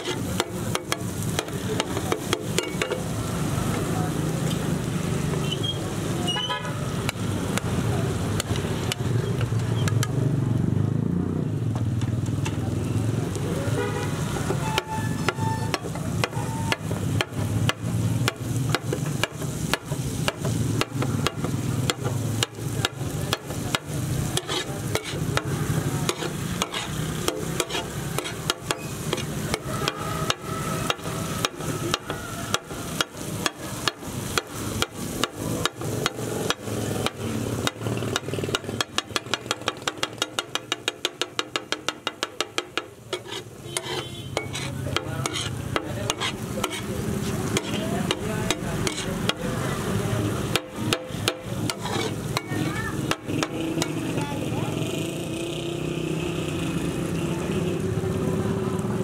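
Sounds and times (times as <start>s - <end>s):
spatula striking griddle: 0.0s - 5.5s, 6.3s - 10.2s, 13.9s - 54.7s
food sizzling on iron griddle: 0.0s - 59.0s.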